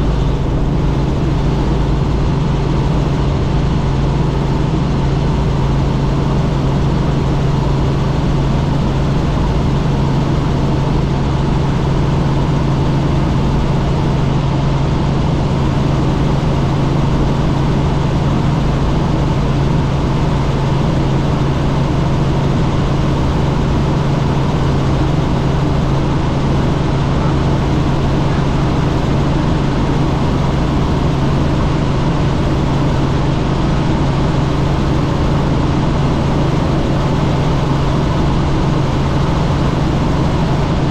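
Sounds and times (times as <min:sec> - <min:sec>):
helicopter engine and rotors droning: 0:00.0 - 0:40.9.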